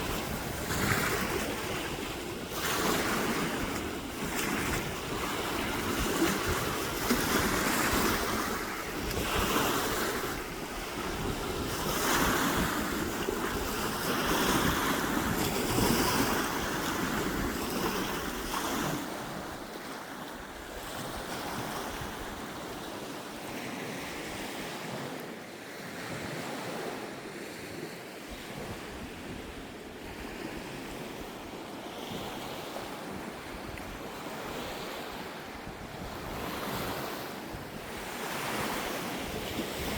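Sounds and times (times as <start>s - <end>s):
wind on microphone: 0.0s - 25.2s, 28.2s - 39.9s.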